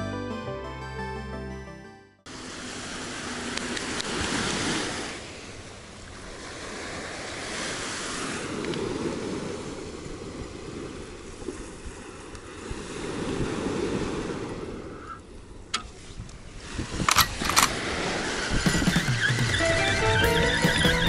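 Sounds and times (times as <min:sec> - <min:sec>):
small waves breaking on beach: 0:02.3 - 0:20.1.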